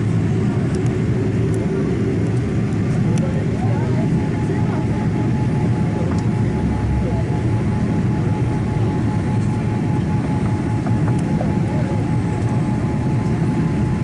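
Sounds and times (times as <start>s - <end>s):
airliner cabin rumble: 0.0s - 14.0s
faint steady whine: 0.0s - 14.0s.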